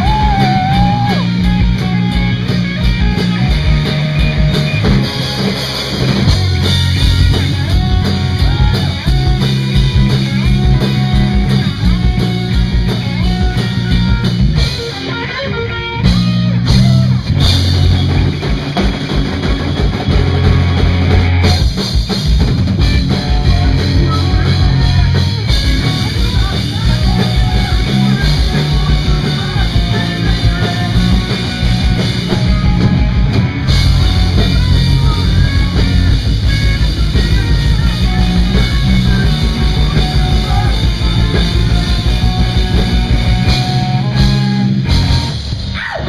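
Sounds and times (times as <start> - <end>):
bass guitar: 0.0 - 46.0
drum kit: 0.0 - 46.0
electric guitars: 0.0 - 46.0.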